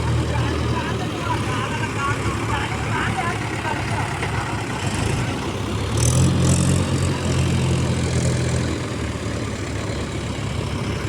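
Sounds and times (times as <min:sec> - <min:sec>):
heavy diesel engine revving: 0:00.0 - 0:11.0.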